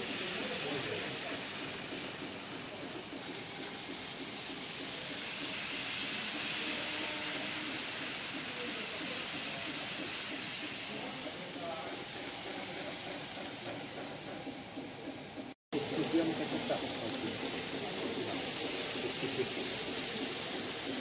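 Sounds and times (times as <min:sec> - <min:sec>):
model trains whirring: 0:00.0 - 0:21.0.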